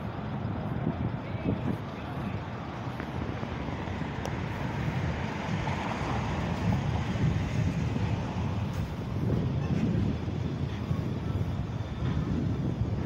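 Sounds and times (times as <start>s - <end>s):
city street traffic: 0.0s - 13.0s
wind buffeting microphone: 0.0s - 13.0s.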